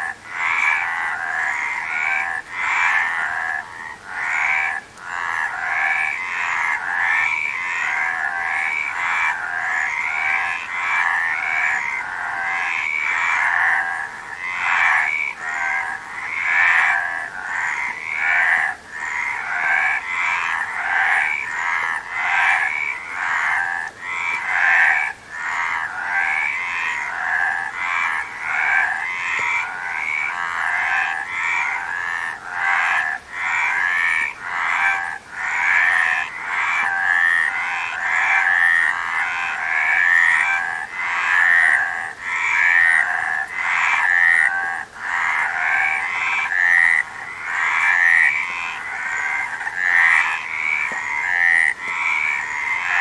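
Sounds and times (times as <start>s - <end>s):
frogs croaking: 0.0s - 53.0s.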